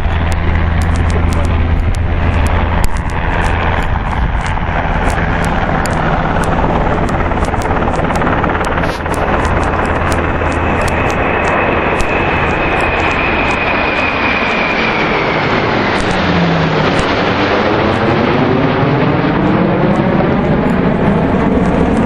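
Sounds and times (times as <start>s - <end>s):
jet engines: 0.0s - 22.0s
wind rushing over microphone: 0.0s - 22.0s.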